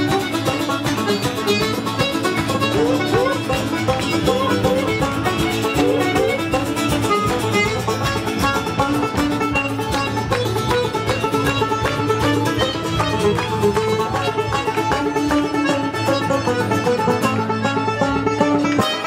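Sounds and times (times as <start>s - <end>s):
frame drum: 0.0s - 17.4s
strummed acoustic guitar: 0.0s - 19.0s
tenor banjo melody: 0.0s - 19.0s.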